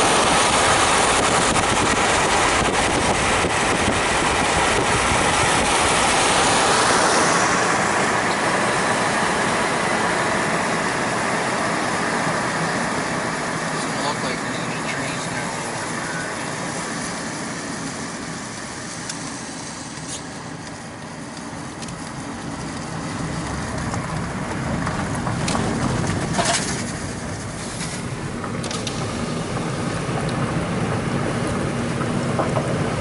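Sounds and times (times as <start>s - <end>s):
car road and engine noise: 0.0s - 33.0s.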